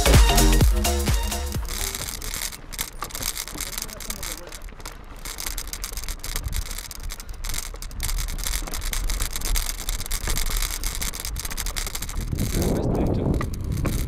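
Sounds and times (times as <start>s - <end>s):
bike tyres rumbling on dirt trail: 0.0s - 14.0s
small clicks and rattles: 0.0s - 14.0s.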